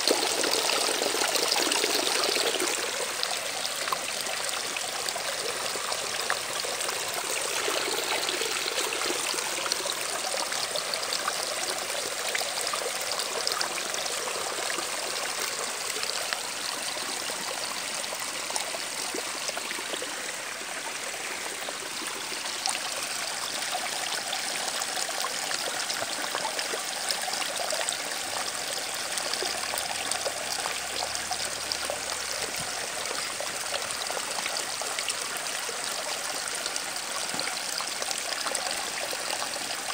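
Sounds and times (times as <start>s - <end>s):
running water rushing and trickling: 0.0s - 39.9s.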